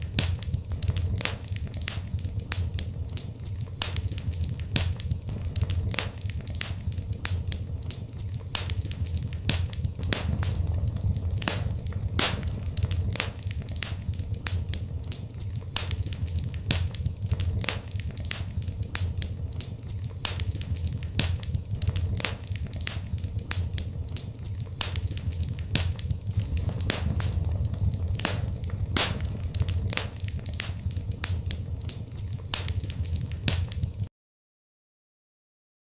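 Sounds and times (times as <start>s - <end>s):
wood fire crackling and popping: 0.0s - 34.1s.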